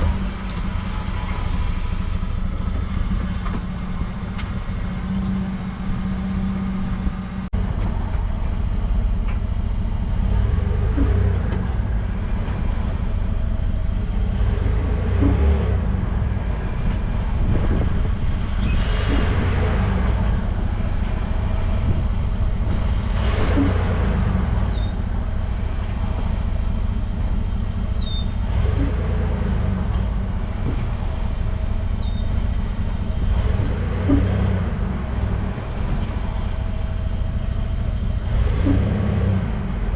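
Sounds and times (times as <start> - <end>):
truck engine low rumble: 0.0 - 39.9.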